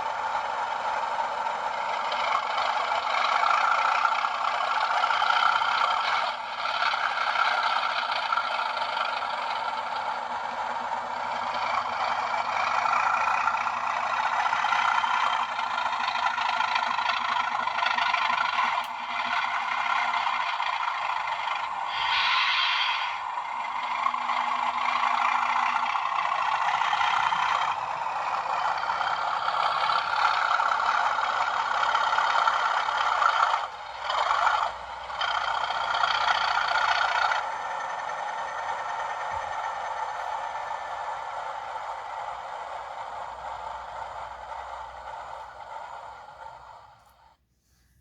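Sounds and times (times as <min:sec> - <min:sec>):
thin diesel engine sound from speaker: 0:00.0 - 0:48.0.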